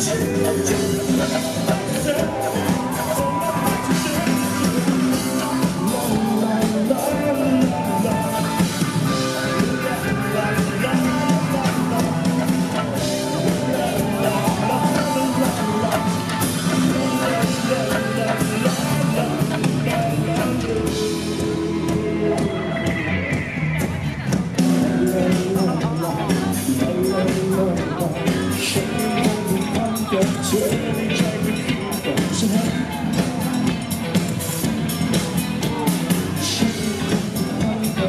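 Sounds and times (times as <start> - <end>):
rock band playing live: 0.0 - 38.0.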